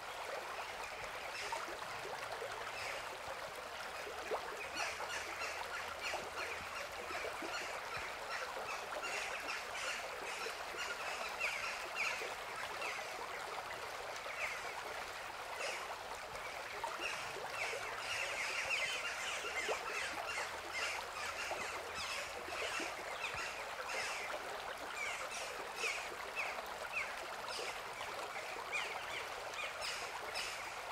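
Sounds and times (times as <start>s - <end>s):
stream flowing over stones: 0.0s - 30.9s.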